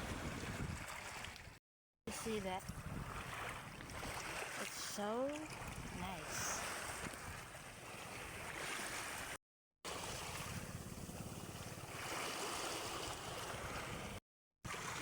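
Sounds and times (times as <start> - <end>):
sea waves washing ashore: 0.0 - 1.5, 2.1 - 15.0.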